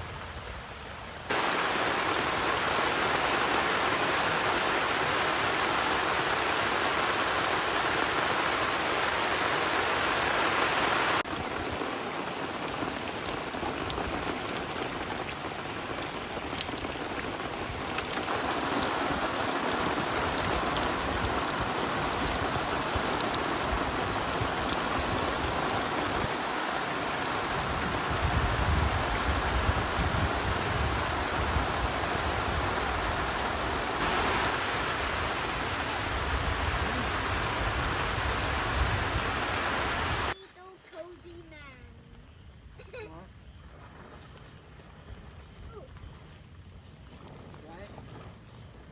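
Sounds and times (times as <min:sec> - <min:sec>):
steady rain falling: 0:00.0 - 0:41.3.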